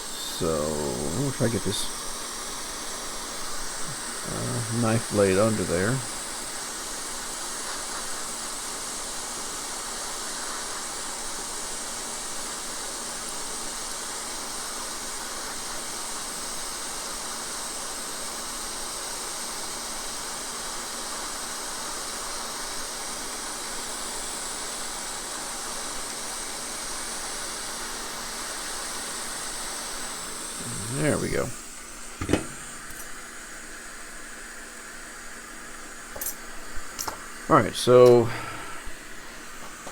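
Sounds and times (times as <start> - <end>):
hot-air station hissing: 0.0 - 39.9.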